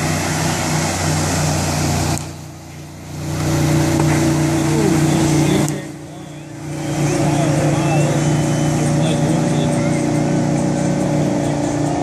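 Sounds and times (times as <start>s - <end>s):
motorboat engines running: 0.0s - 12.0s
water rushing and spraying: 0.0s - 12.0s.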